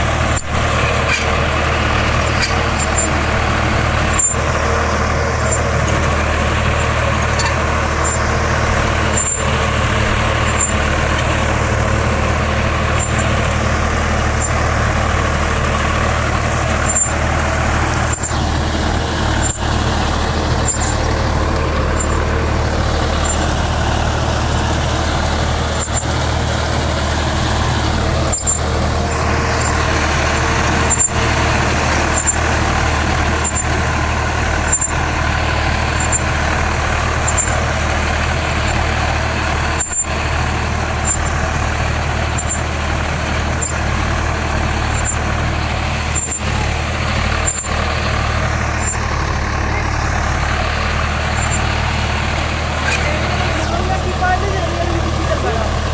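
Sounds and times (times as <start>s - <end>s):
tractor diesel engine rumbling: 0.0s - 55.9s.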